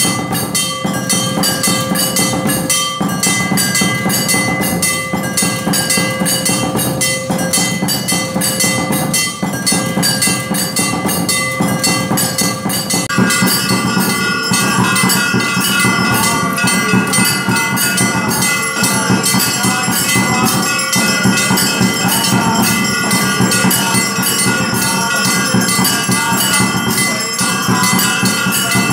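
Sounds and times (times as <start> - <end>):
bells ringing rapidly: 0.0 - 28.9.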